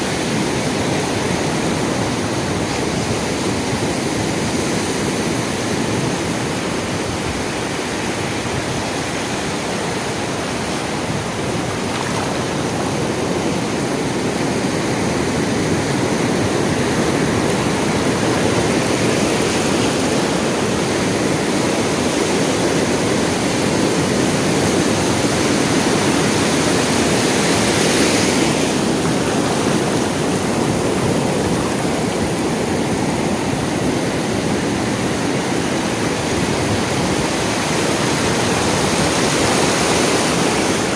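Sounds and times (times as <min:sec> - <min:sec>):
sea waves washing in: 0:00.0 - 0:40.9.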